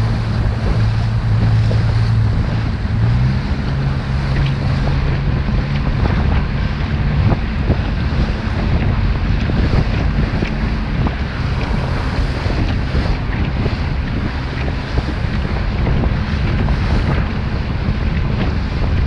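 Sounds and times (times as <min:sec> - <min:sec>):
motor boat engine running: 0:00.0 - 0:19.0
water slapping against hull: 0:00.0 - 0:19.0
wind buffeting microphone: 0:00.0 - 0:19.0.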